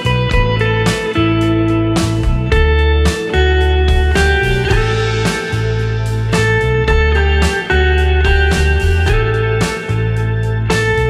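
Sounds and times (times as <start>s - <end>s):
guitar-led instrumental music: 0.0s - 11.0s.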